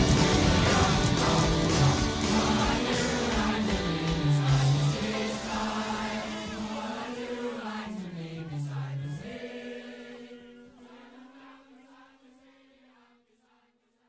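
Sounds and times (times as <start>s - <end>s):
massed voices singing a long note: 0.0s - 13.8s.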